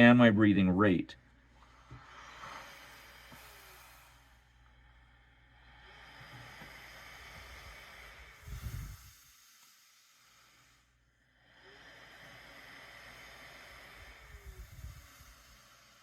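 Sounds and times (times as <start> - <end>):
air hissing through mask: 1.6 - 16.0.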